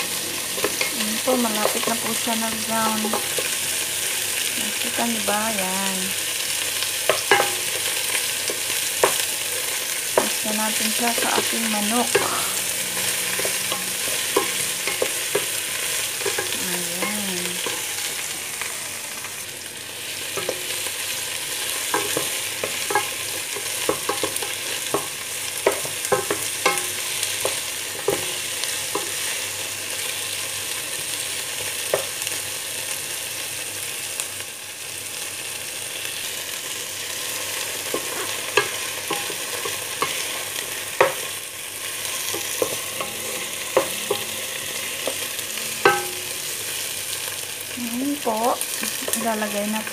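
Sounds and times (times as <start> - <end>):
food sizzling in oil: 0.0 - 49.9.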